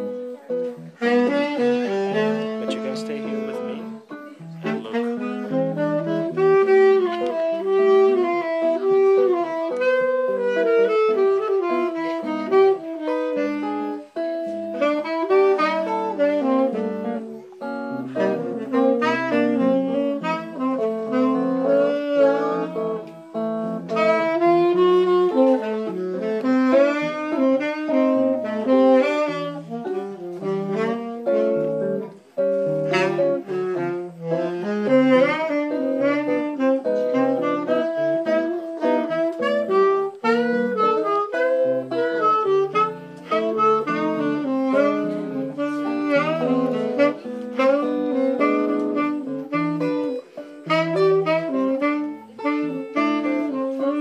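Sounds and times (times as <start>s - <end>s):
electric guitar chords: 0.0s - 54.0s
tenor saxophone melody: 0.0s - 54.0s.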